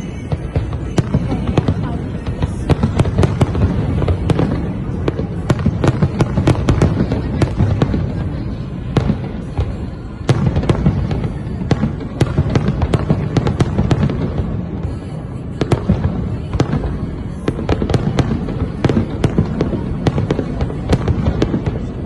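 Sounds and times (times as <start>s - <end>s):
continuous low rumble: 0.0s - 22.0s
fireworks bangs and crackles: 0.0s - 22.0s.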